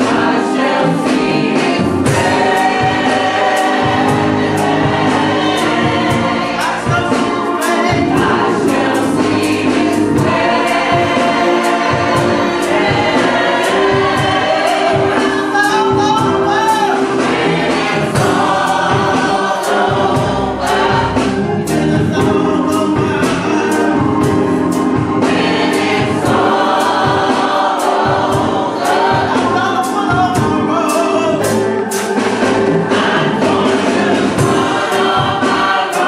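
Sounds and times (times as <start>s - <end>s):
choir singing gospel: 0.0s - 36.0s
steady beat: 0.0s - 36.0s.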